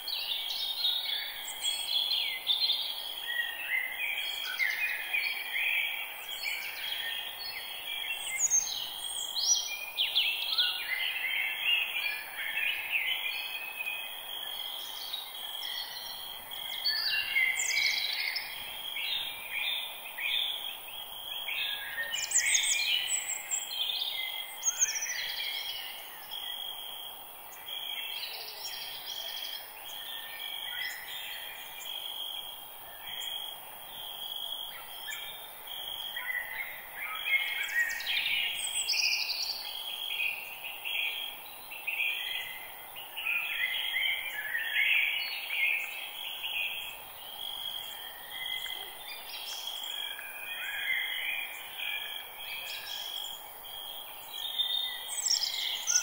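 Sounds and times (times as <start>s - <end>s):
birds singing and chirping: 0.0s - 26.7s, 33.0s - 56.0s
faint background hiss: 0.0s - 56.0s.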